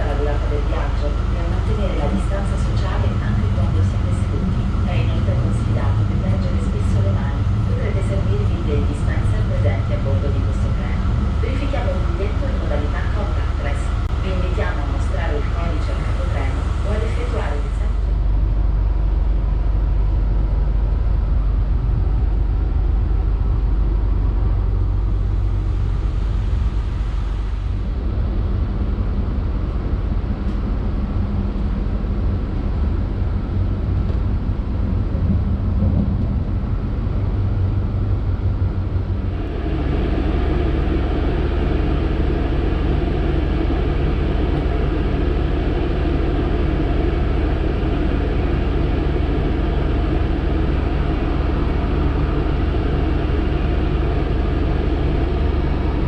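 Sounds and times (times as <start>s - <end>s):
train rumbling inside coach: 0.0s - 56.0s.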